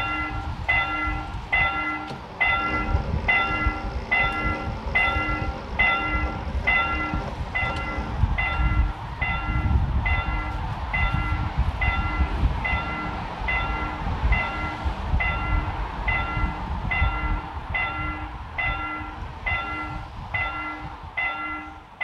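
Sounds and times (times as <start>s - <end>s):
low rumble: 0.0s - 21.4s
railroad crossing bell ringing: 0.0s - 22.0s.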